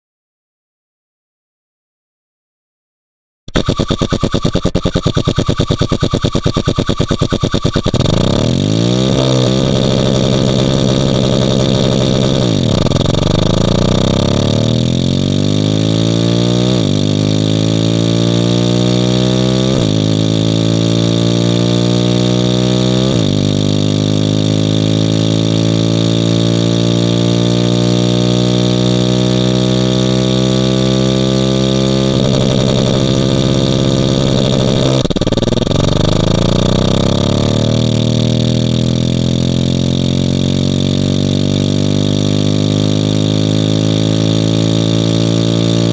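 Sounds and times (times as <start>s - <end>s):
engine revving: 3.6s - 45.9s.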